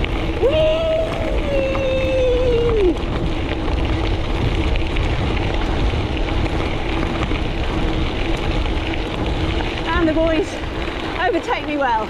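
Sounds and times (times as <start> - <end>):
tyres rolling over gravel: 0.0 - 12.0
wind buffeting microphone: 0.0 - 12.0.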